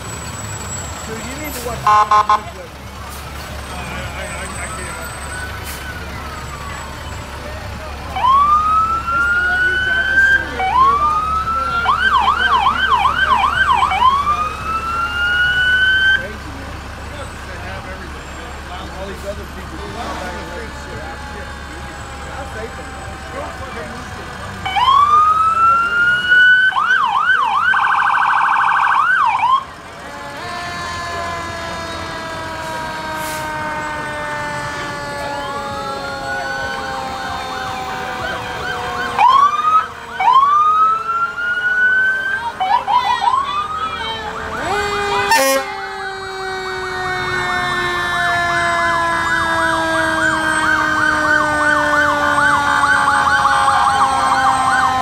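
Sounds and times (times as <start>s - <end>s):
fire truck sirens: 0.0s - 55.0s.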